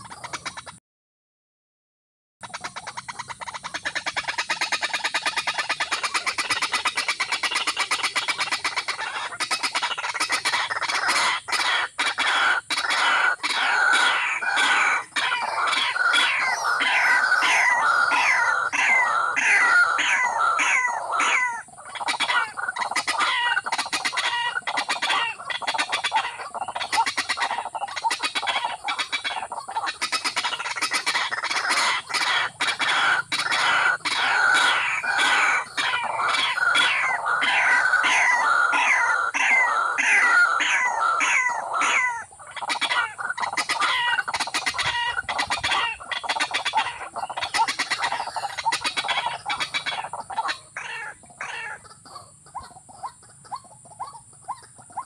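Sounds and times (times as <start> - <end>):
loud downward-sweeping bird calls: 3.8 - 51.9.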